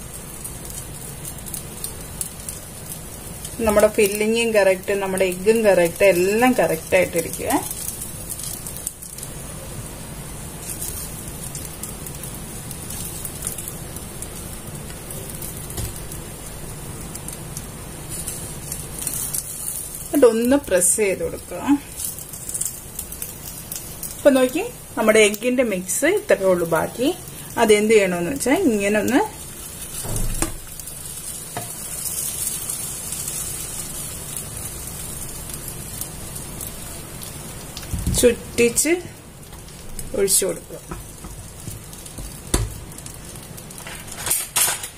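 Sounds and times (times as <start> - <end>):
soft sizzling in a pan: 0.0 - 44.9.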